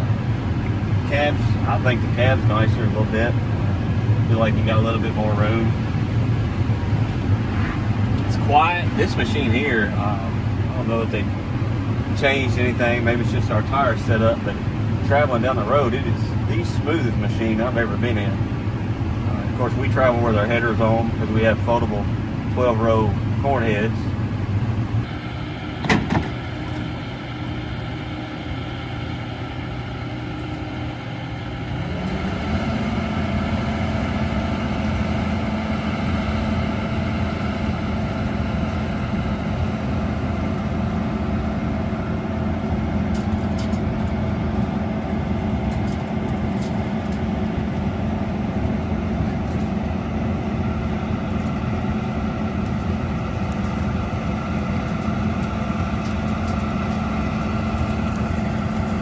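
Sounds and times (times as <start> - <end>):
combine harvester humming: 0.0 - 59.0.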